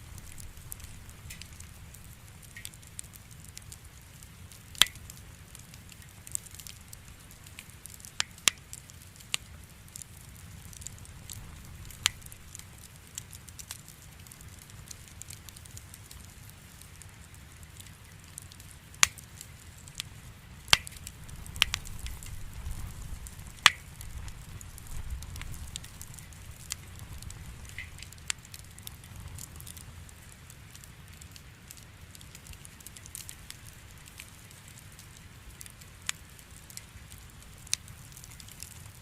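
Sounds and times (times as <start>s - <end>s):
fire rumble and hiss: 0.0s - 39.0s
firewood crackling and popping: 0.0s - 39.0s.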